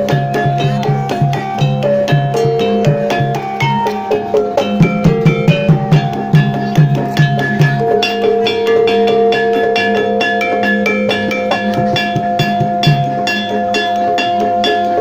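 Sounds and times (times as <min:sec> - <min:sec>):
drum strokes: 0:00.0 - 0:15.0
metal-keyed instruments: 0:00.0 - 0:15.0
ringing gong tones: 0:00.4 - 0:15.0.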